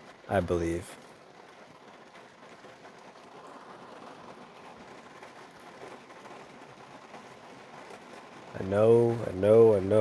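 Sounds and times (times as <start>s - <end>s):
steady rain pouring: 0.0s - 10.0s.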